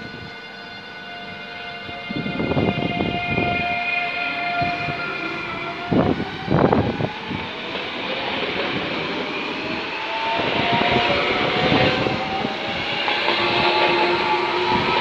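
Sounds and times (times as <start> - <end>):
train wheels rushing on rails: 0.0 - 15.0.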